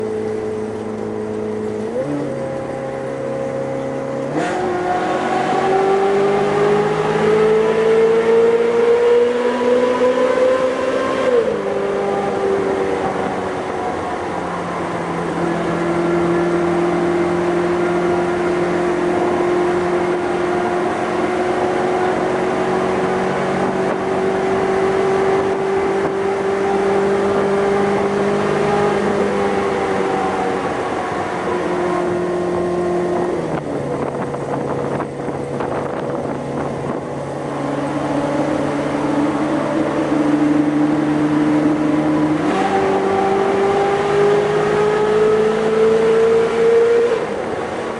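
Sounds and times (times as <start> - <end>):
sports car engine driving: 0.0 - 47.9.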